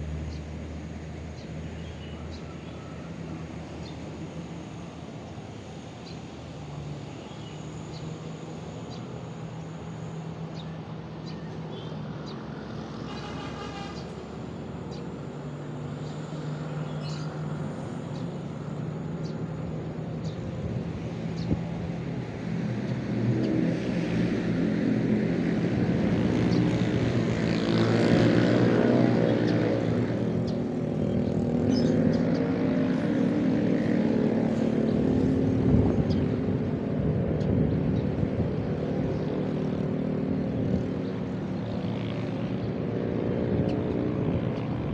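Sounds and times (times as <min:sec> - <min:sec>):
vehicle engines running: 0:00.0 - 0:44.9.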